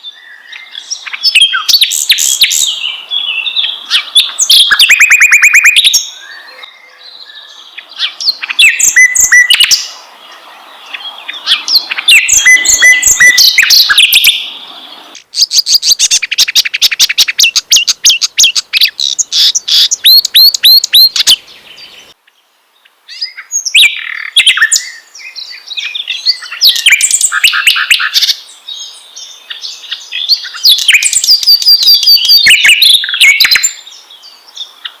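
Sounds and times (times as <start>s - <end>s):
birdsong whistles and trills: 0.0s - 22.2s, 22.8s - 35.0s.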